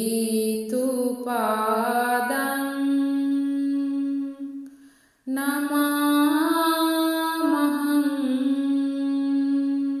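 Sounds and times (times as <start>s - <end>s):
woman chanting: 0.0s - 4.6s, 5.3s - 10.0s.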